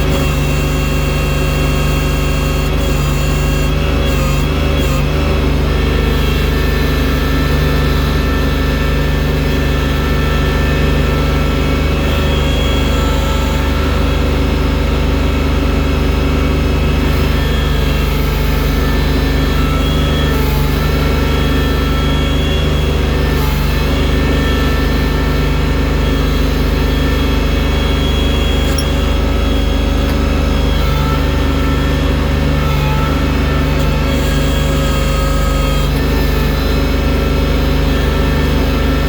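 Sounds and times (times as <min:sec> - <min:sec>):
loader engine running under load: 0:00.0 - 0:39.0.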